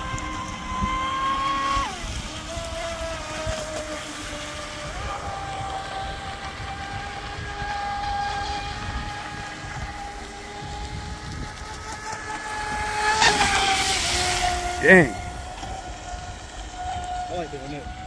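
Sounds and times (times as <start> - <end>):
electric motor whining: 0.0 - 18.0
wind rumble on microphone: 0.0 - 18.0.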